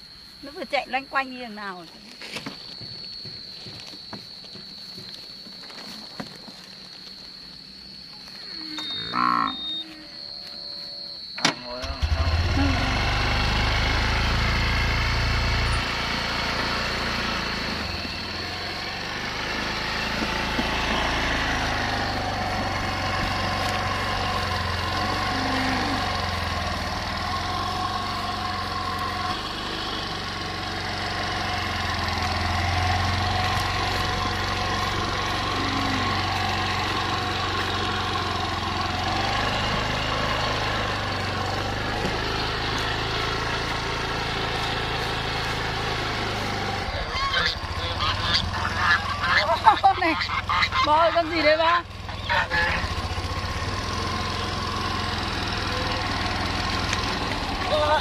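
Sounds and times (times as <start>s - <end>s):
scooter engine running: 9.5s - 58.0s.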